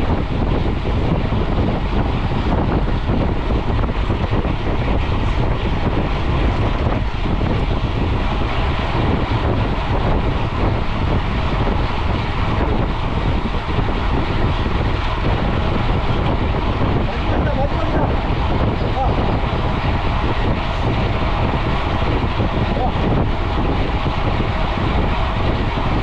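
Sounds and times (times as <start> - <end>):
bike tyres rolling on pavement: 0.0 - 26.0
wind on camera microphone: 0.0 - 26.0.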